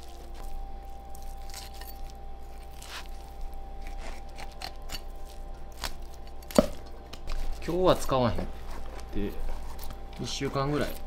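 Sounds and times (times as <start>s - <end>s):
crunchy cutting or scraping: 0.0s - 11.0s
faint steady hum: 0.0s - 11.0s.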